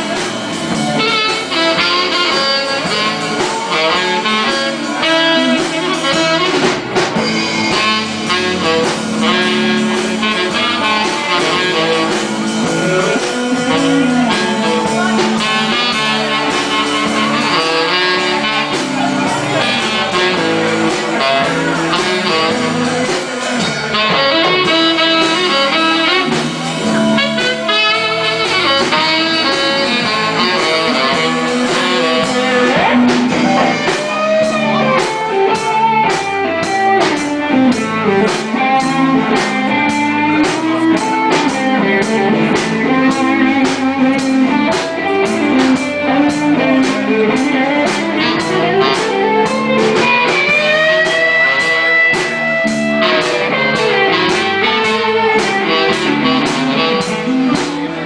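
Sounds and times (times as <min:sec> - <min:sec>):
drum beat: 0:00.0 - 0:58.0
electric guitar: 0:00.0 - 0:58.0
live blues band playing: 0:00.0 - 0:58.0.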